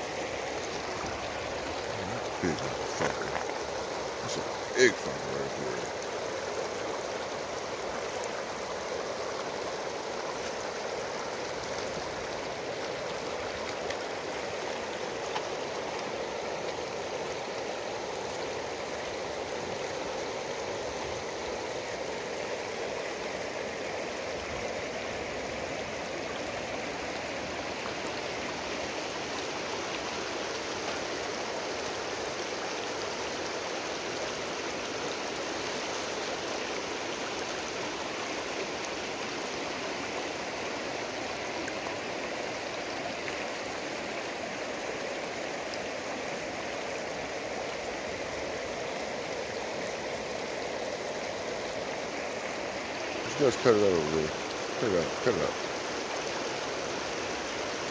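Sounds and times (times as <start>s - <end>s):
river water flowing over stones: 0.0s - 57.9s.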